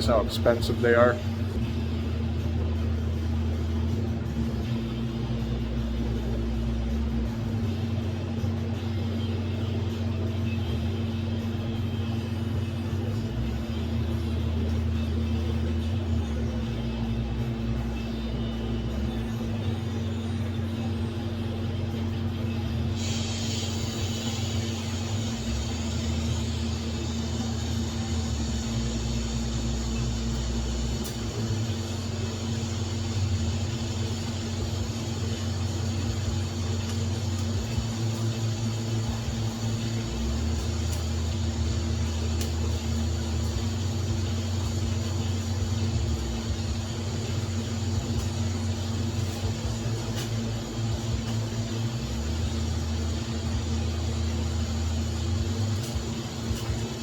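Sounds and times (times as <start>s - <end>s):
welding arc buzzing: 0.0s - 57.0s.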